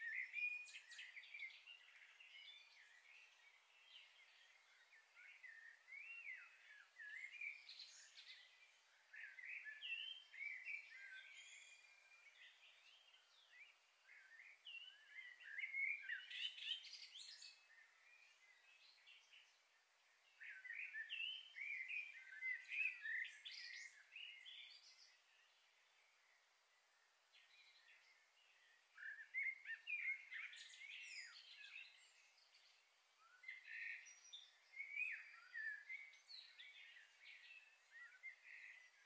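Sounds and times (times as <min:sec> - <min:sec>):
faint birdsong: 0:00.0 - 0:39.0.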